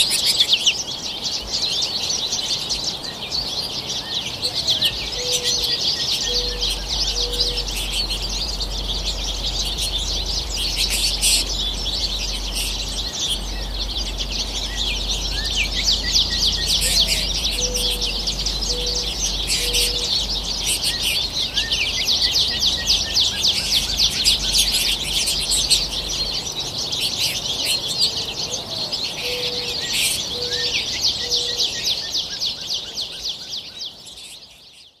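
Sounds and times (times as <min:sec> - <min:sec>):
finches chattering and twittering: 0:00.0 - 0:35.0
lower bird call: 0:02.9 - 0:33.6.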